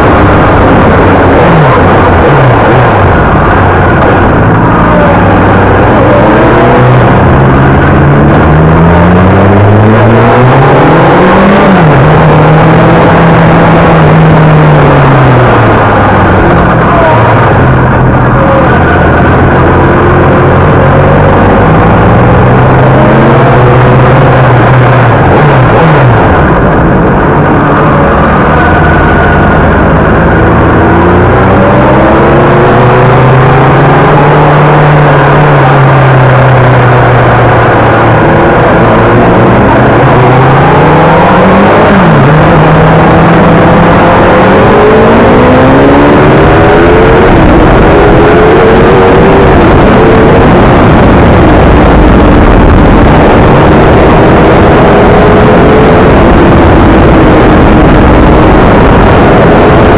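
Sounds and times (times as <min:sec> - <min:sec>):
motorcycle engine revving: 0:00.0 - 0:59.9
other motorcycle engines: 0:00.0 - 0:59.9
wind noise on microphone: 0:00.0 - 0:59.9.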